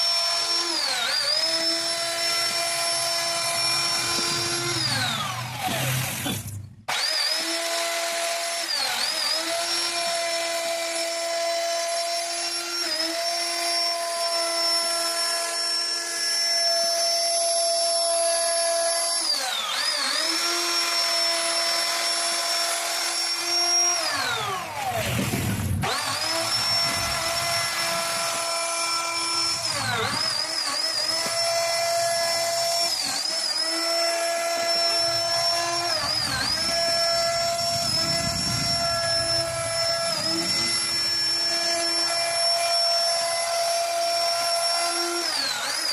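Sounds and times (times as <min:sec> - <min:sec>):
router spindle cutting wood: 0:00.0 - 0:45.9.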